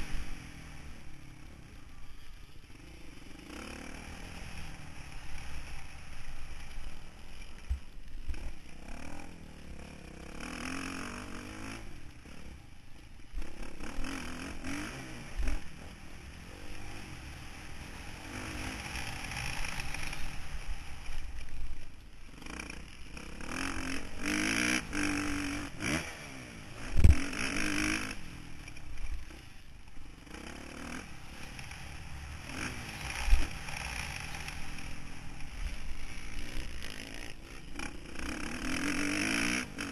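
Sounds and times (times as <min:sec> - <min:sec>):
motocross engine revving: 0:02.7 - 0:07.4, 0:08.2 - 0:12.6, 0:13.2 - 0:21.2, 0:22.3 - 0:29.6, 0:30.2 - 0:39.9.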